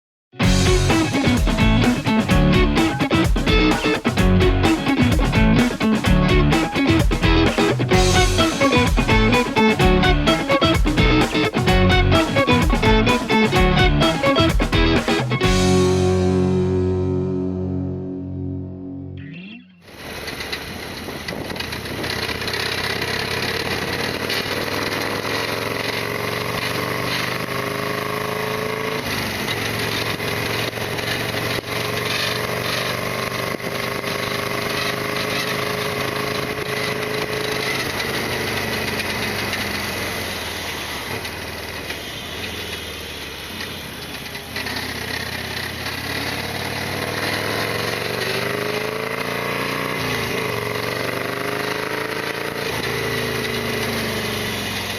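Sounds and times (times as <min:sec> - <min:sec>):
motorcycle engine under way: 0:00.4 - 0:17.9, 0:19.8 - 0:54.9.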